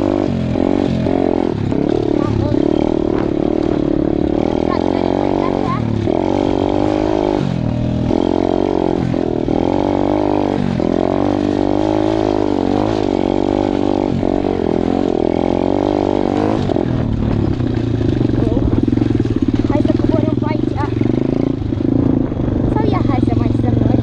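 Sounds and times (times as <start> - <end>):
motorbike engine revving: 0.0 - 24.0.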